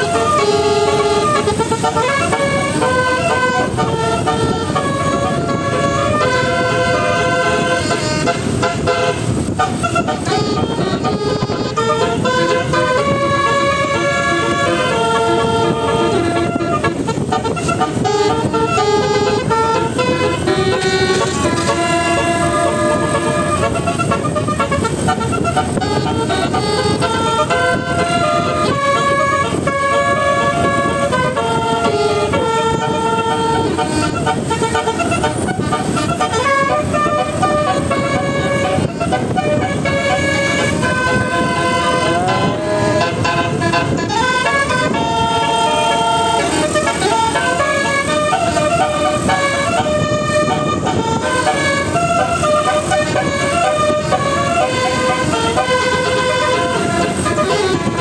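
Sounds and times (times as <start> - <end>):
multi-tone air horn melody: 0.0 - 58.0
steady low rumble: 0.0 - 58.0.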